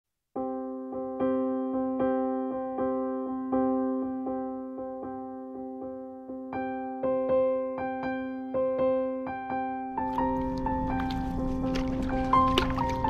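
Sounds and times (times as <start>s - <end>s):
gentle keyboard piece: 0.4s - 13.0s.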